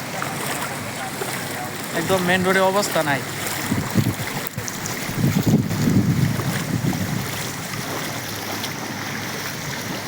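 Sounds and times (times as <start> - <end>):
heavy rain and floodwater rushing: 0.0 - 10.0
wind buffeting microphone: 0.5 - 10.0.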